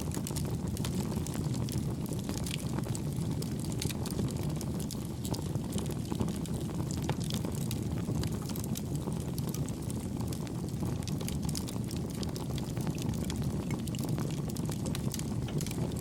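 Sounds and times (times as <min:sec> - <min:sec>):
wood campfire burning: 0:00.0 - 0:16.0.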